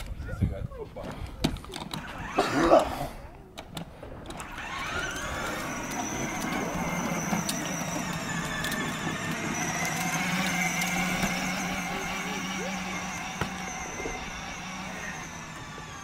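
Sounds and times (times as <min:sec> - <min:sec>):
electric motor whining: 0:01.6 - 0:02.5, 0:03.7 - 0:16.0.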